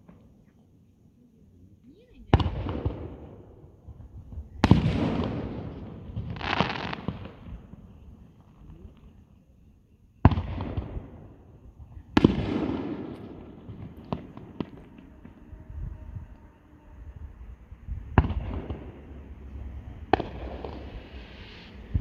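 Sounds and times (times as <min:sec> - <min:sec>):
crackling hiss: 0:00.0 - 0:22.0
firework shells booming: 0:02.3 - 0:09.2, 0:10.2 - 0:22.0.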